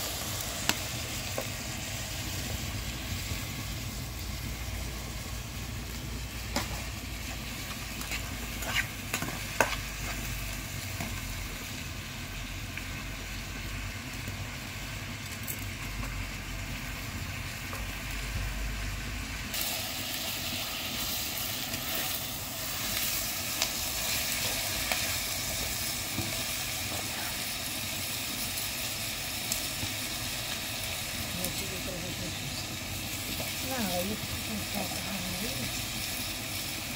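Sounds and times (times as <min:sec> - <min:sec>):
onions sizzling in a pan: 0:00.0 - 0:36.9.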